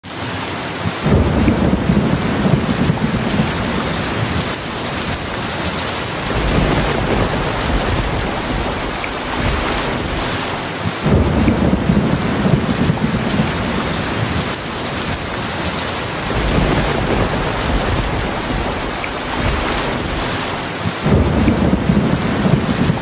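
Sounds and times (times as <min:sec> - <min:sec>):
heavy rain pouring: 0:00.0 - 0:23.0
rolling thunder rumble: 0:01.0 - 0:23.0.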